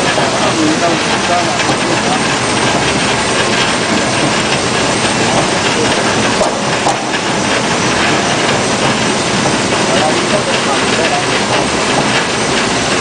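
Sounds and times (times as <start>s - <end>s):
vegetable washing machine rattling: 0.0s - 13.0s.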